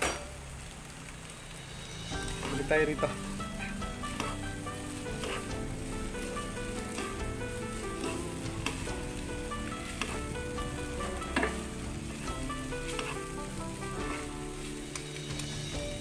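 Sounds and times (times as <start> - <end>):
noodles sizzling in a pan: 0.0 - 16.0
utensils tapping and scraping pan: 1.7 - 16.0.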